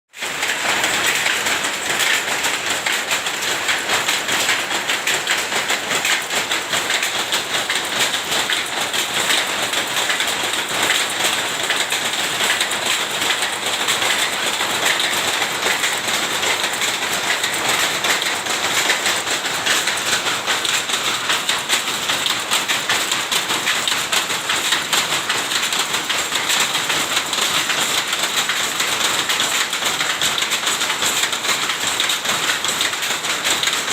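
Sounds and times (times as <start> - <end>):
textile machine clattering: 0.2 - 33.9.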